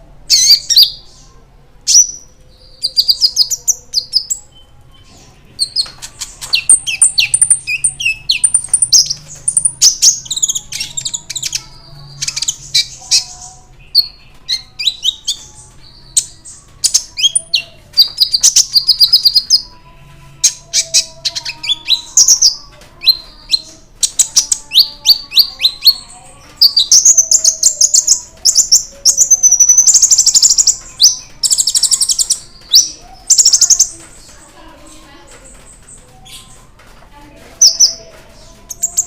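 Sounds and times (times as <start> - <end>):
sunbird chirping and trilling: 0.3 - 19.7, 20.3 - 34.4.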